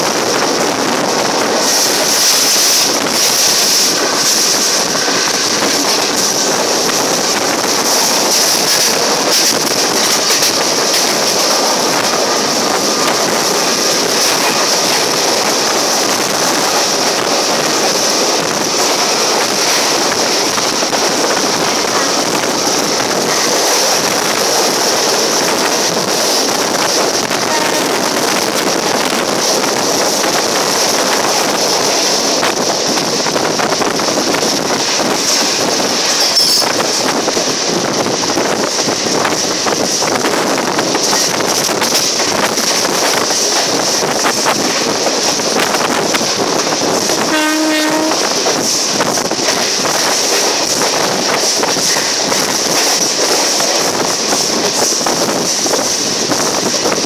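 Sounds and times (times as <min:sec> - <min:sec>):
train wheels rushing on rails: 0:00.0 - 0:57.0
wind buffeting microphone: 0:00.0 - 0:57.0.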